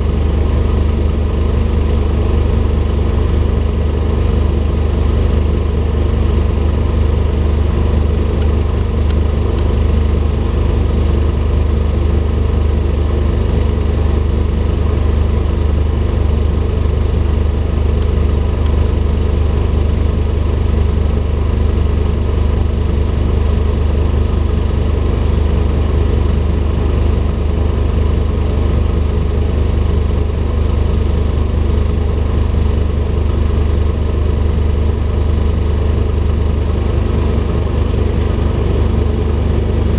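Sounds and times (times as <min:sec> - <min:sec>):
bus diesel engine humming: 0:00.0 - 0:39.9.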